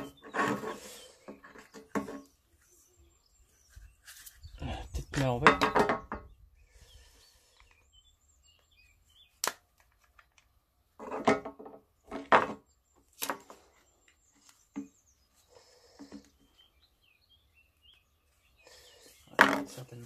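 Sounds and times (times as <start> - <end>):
faint bird chirps: 0.0 - 5.4, 6.0 - 9.4, 12.7 - 20.0.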